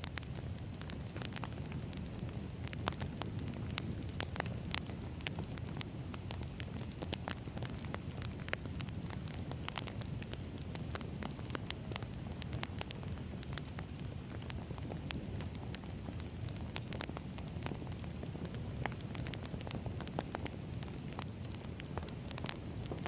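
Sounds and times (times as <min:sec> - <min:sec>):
low rumble of flame: 0:00.0 - 0:23.0
wood fire crackling and popping: 0:00.0 - 0:23.0.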